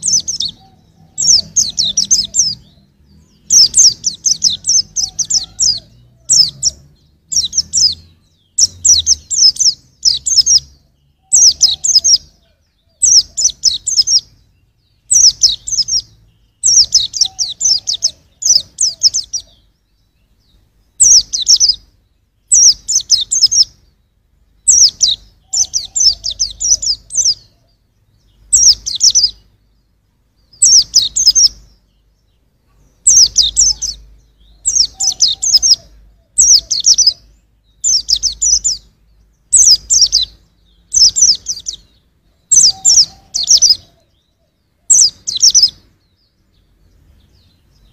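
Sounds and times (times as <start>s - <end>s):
bird twittering: 0.0s - 29.8s, 30.4s - 47.9s.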